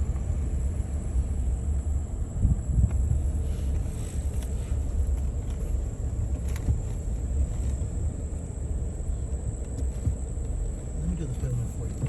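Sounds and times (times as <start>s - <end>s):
truck rumble from inside cab: 0.0s - 12.0s.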